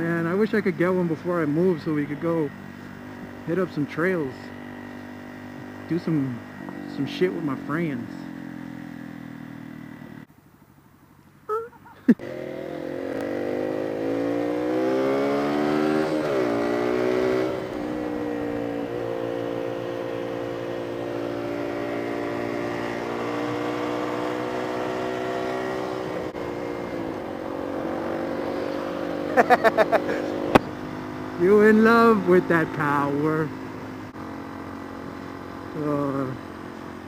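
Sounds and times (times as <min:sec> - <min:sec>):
motorcycle engine revving: 0:00.0 - 0:10.3, 0:12.1 - 0:37.0.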